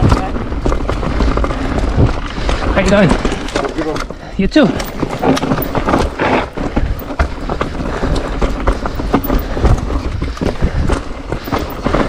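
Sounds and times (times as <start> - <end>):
bike rattling and knocking: 0.0 - 12.0
tyres crunching on gravel: 0.0 - 12.0.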